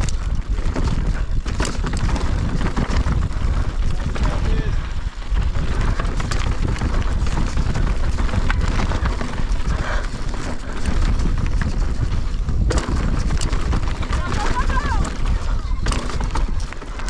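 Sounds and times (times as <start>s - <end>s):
bike clattering over rocks: 0.0s - 17.0s
wind on microphone: 0.0s - 17.0s.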